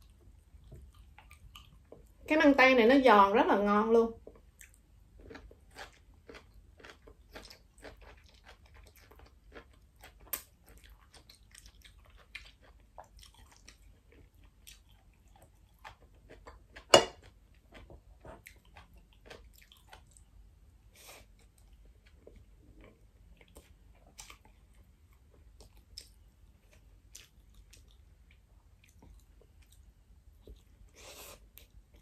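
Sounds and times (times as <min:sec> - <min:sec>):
person chewing crunchy food: 0:00.0 - 0:02.1, 0:04.3 - 0:20.4, 0:21.0 - 0:32.0.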